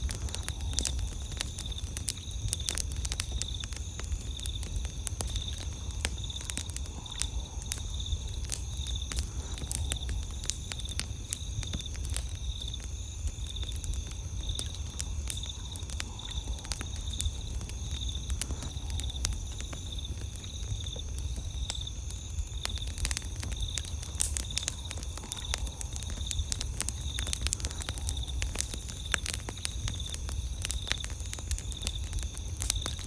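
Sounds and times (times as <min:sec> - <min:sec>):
campfire crackling and popping: 0:00.0 - 0:33.0
insects chirping: 0:00.0 - 0:33.0.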